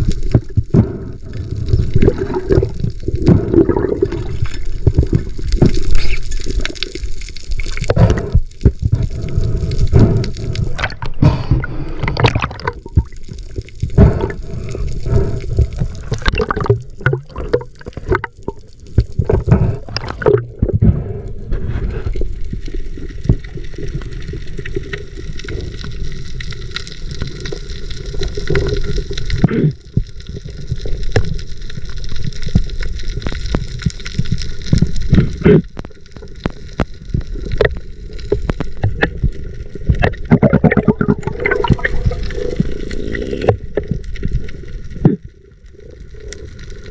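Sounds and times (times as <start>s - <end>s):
water gurgling and sloshing: 0.0s - 46.9s.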